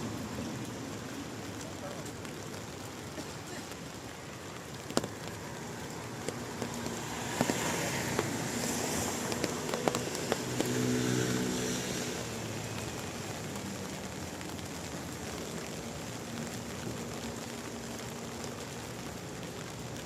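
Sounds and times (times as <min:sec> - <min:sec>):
car passing on wet road: 0:00.0 - 0:20.0
steady rain hiss: 0:00.0 - 0:20.0.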